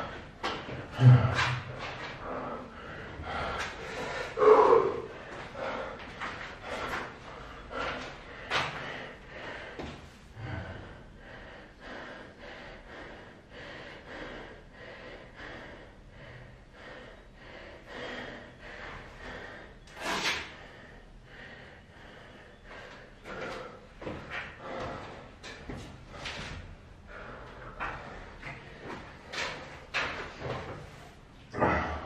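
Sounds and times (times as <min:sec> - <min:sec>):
man breathing heavily: 0:00.0 - 0:32.0.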